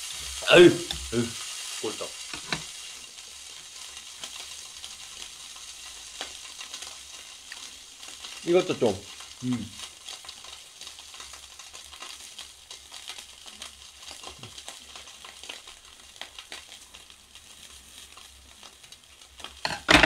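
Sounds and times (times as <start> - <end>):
beef sizzling in a frying pan: 0.0 - 20.0.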